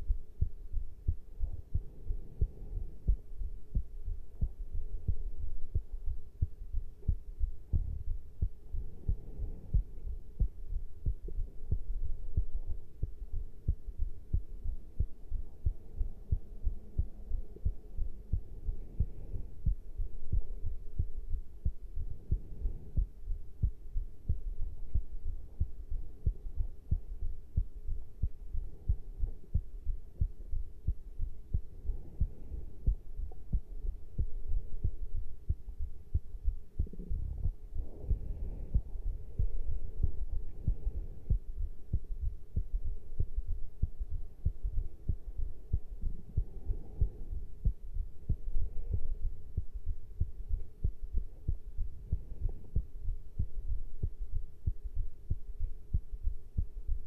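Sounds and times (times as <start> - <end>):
heartbeat thuds: 0.0 - 57.0.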